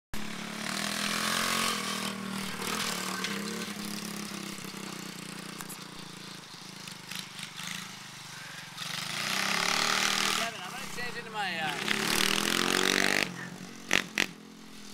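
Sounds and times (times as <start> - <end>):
small motorbike engine droning: 0.2 - 14.9.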